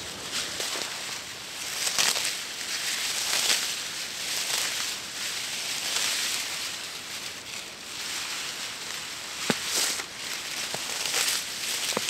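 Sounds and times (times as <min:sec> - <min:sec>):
dry reeds rustling and crackling: 0:00.0 - 0:12.0.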